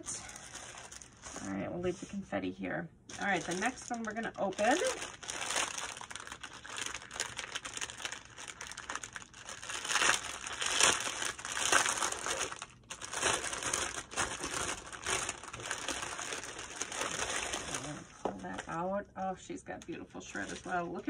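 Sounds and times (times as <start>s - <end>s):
cellophane crinkling: 0.0s - 1.7s, 3.1s - 18.9s, 19.8s - 21.0s.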